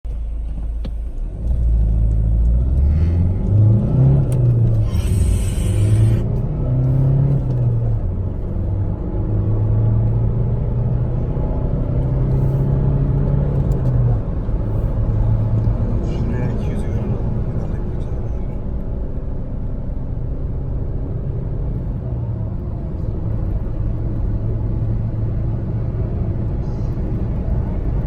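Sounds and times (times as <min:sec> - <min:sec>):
road noise: 0:00.0 - 0:28.0
diesel car engine accelerating: 0:00.1 - 0:28.0.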